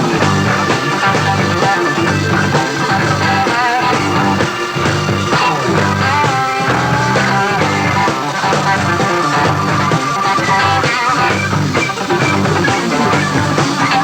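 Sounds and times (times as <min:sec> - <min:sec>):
bass line: 0:00.0 - 0:14.0
drums: 0:00.0 - 0:14.0
lead electric guitar: 0:00.0 - 0:14.0.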